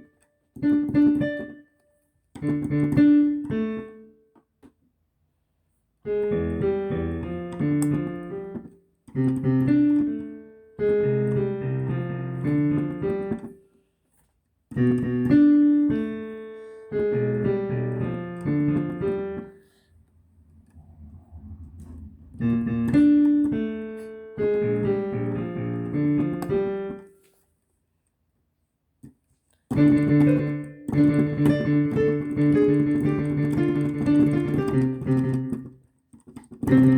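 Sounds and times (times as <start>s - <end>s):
piano chords: 0.0s - 4.2s, 6.0s - 13.6s, 14.7s - 27.1s, 29.7s - 36.9s.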